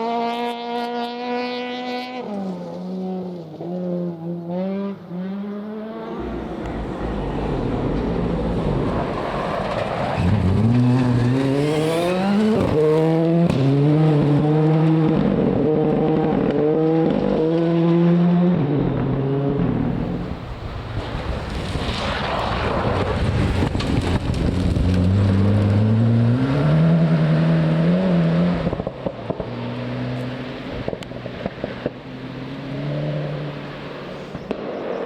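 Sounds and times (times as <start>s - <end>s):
rally car engine revving: 0.0s - 34.6s.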